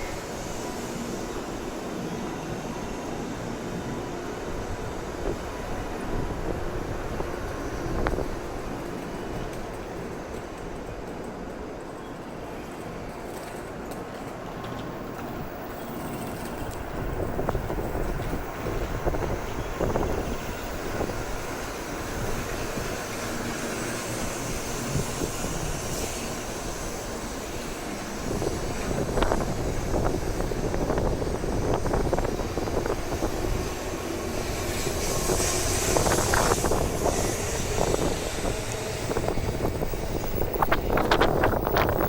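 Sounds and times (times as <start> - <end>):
train rumbling: 0.0 - 42.0
wind noise on microphone: 3.8 - 11.0, 15.4 - 42.0.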